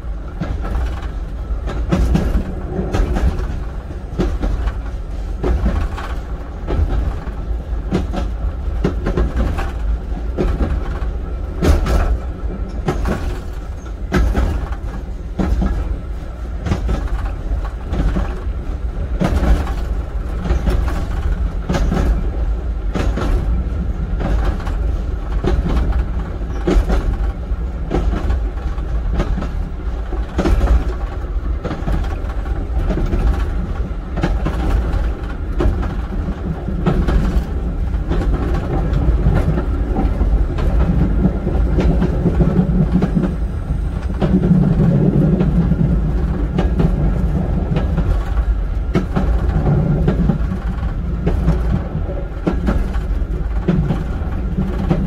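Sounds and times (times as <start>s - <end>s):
railcar rumbling on track: 0.0s - 55.0s
wheels clicking over rail joints: 0.0s - 55.0s.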